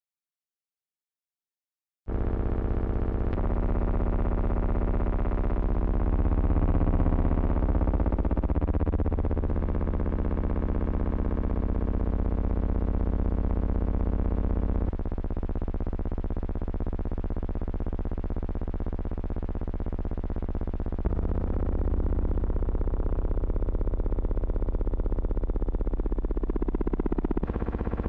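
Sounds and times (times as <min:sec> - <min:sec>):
buzzing drone with rapid pulse: 0:02.1 - 0:28.0.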